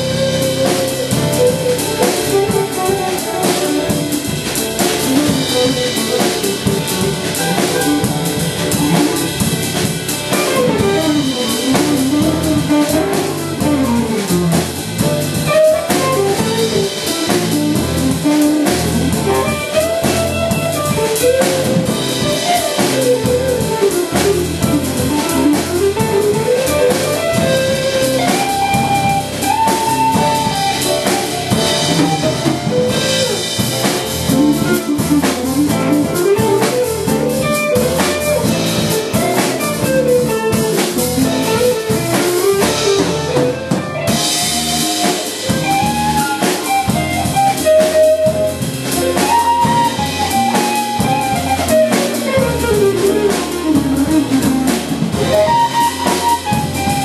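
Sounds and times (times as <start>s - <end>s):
jazz band playing: 0.0s - 57.0s
lead melody line: 0.0s - 57.0s.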